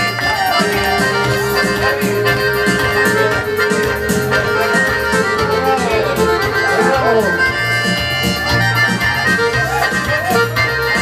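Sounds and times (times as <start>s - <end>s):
accordion-led folk dance music: 0.0s - 11.0s.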